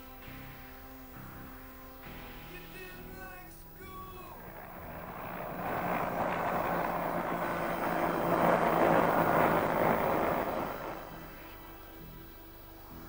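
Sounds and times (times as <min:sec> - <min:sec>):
helicopter flying past: 0:00.0 - 0:13.0.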